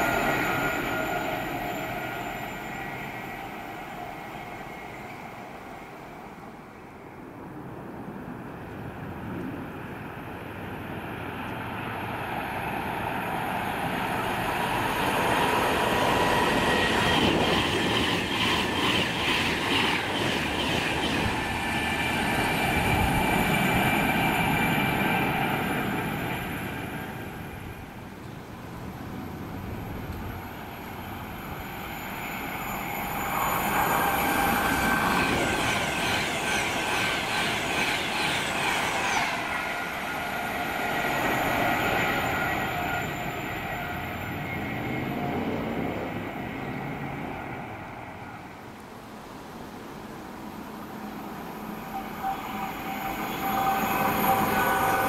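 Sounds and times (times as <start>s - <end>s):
trains passing at speed: 0.0s - 55.0s.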